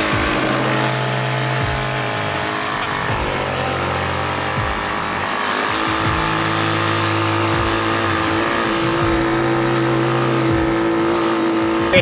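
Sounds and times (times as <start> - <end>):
quad bike engine under load: 0.0 - 12.0.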